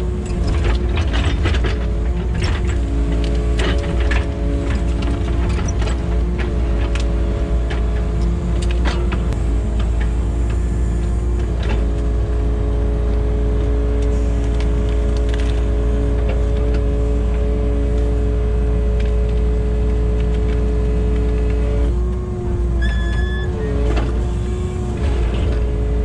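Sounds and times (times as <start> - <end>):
excavator diesel engine: 0.0 - 26.0.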